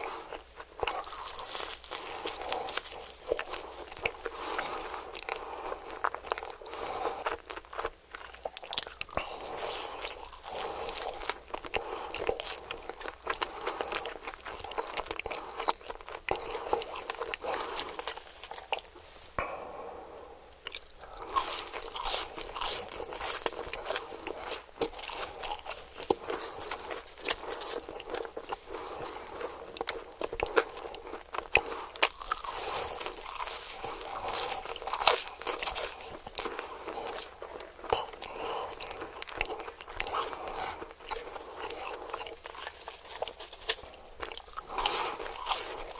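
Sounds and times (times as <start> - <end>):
crunchy eating and chewing: 0.0 - 19.8, 20.5 - 45.9.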